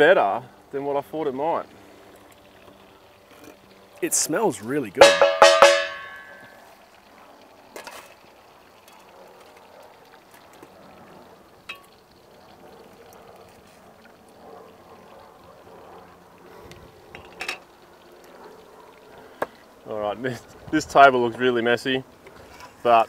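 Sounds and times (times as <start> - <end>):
hot fried food crackling: 0.0 - 23.0.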